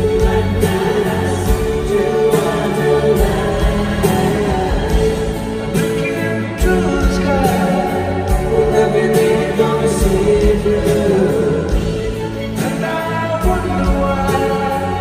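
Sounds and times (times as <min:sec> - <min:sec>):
person singing: 0:00.0 - 0:15.0
strummed acoustic guitars: 0:00.0 - 0:15.0.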